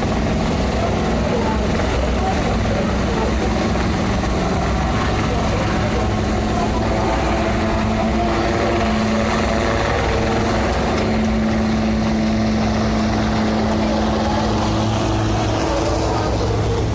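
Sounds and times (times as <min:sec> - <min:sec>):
constant rushing noise: 0:00.0 - 0:16.9
engine drone: 0:00.0 - 0:16.9.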